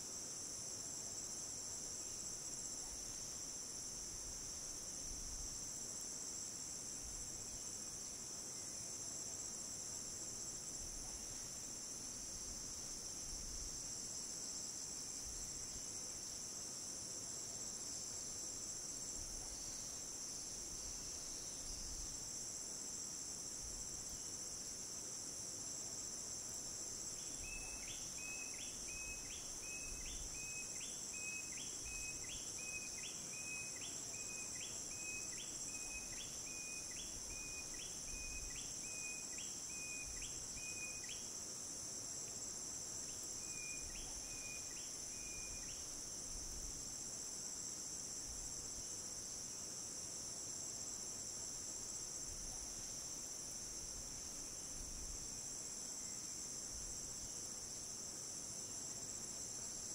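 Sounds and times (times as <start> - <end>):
crickets and cicadas chirping: 0.0 - 59.9.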